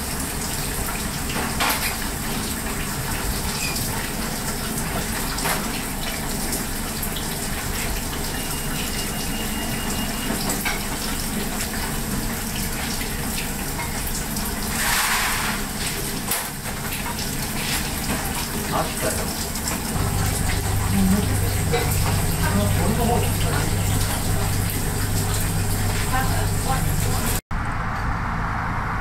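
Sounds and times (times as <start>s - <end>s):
water running from a tap: 0.0s - 27.4s.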